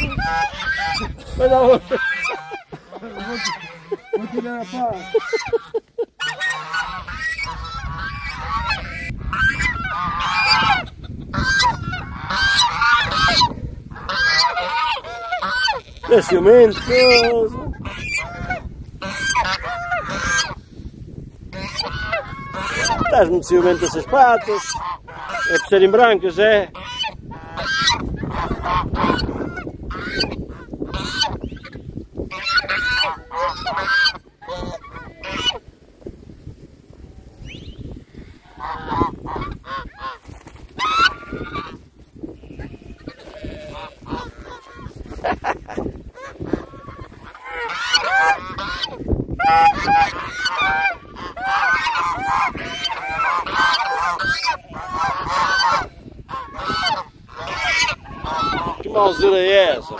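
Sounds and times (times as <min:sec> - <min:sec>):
geese honking: 0:00.0 - 0:20.6, 0:21.5 - 0:35.7, 0:37.4 - 0:45.3, 0:45.9 - 0:59.9.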